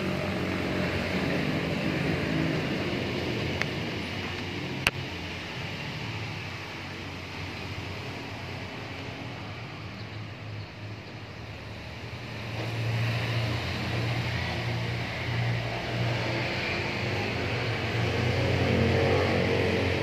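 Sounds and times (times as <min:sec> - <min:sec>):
low engine drone: 0:00.0 - 0:20.0
noisy hiss: 0:00.0 - 0:20.0.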